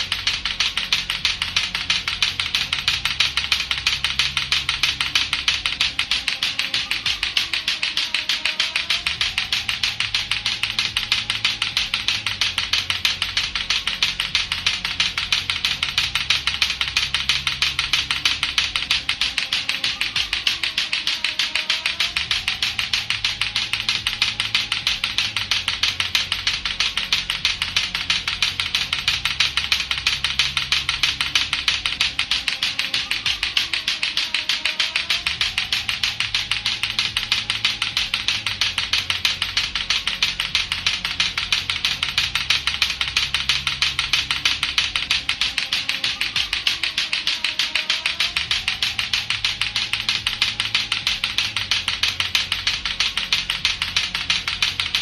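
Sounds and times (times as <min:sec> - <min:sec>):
background music: 0:00.0 - 0:55.0
plastic balls clacking together: 0:00.0 - 0:55.0.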